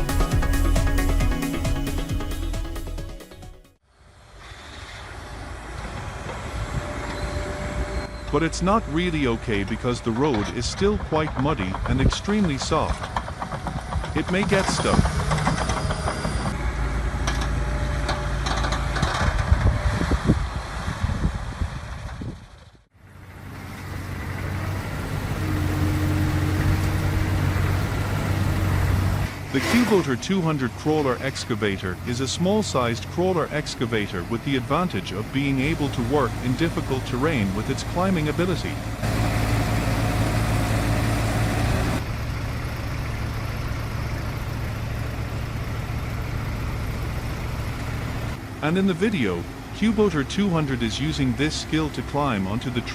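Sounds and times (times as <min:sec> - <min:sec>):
diesel engine running: 0:00.0 - 0:03.8, 0:05.1 - 0:52.9.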